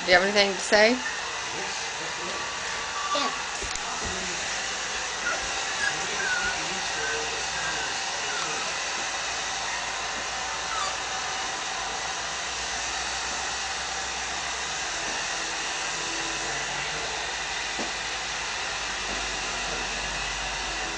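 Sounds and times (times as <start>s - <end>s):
hair dryer running: 0.0s - 20.9s.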